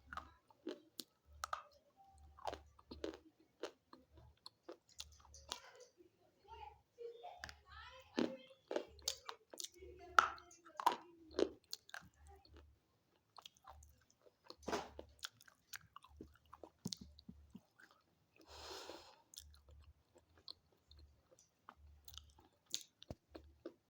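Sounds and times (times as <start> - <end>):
crunching and chewing: 0.0 - 6.0, 7.4 - 23.9.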